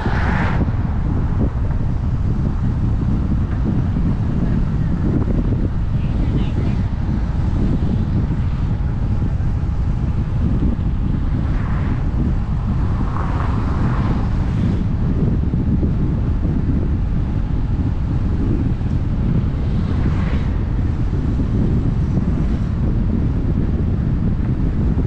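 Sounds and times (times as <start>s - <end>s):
vehicle road rumble: 0.0s - 25.0s
wind buffeting microphone: 0.0s - 25.0s.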